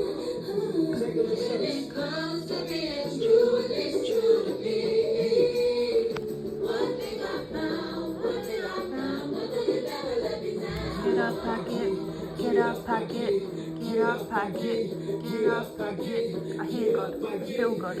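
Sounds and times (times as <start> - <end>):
musical accompaniment: 0.0 - 18.0.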